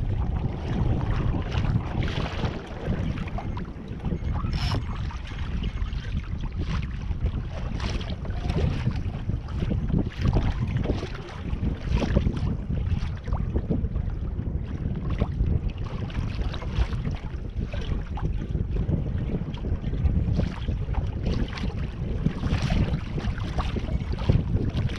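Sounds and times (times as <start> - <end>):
water splashing against hull: 0.0 - 24.9
wind buffeting microphone: 0.0 - 24.9.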